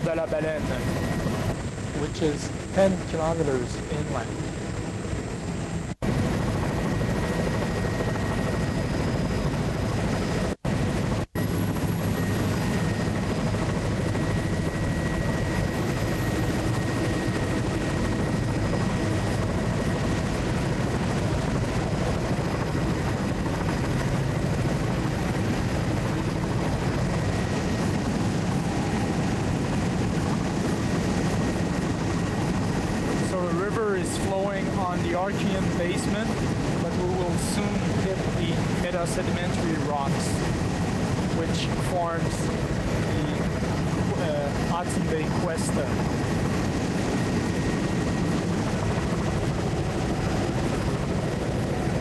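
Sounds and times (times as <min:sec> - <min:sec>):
aircraft engine drone in cabin: 0:00.0 - 0:52.0.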